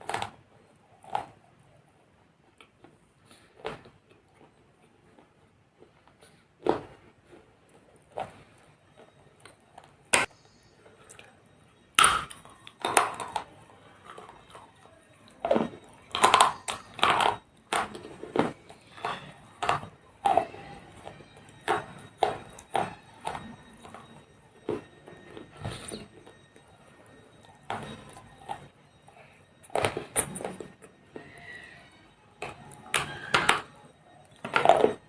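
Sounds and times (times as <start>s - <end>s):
clay pots cracking and crunching: 0.0s - 35.0s.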